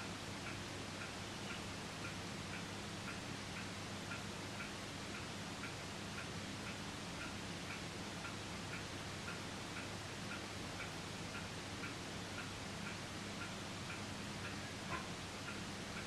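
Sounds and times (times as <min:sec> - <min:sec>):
low steady hum: 0:00.0 - 0:16.0
soft regular ticking: 0:00.4 - 0:16.0.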